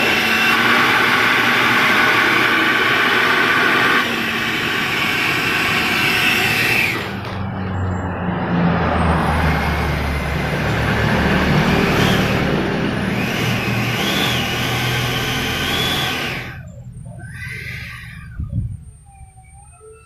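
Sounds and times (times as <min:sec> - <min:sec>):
electric ducted fan whine: 0:00.0 - 0:20.0.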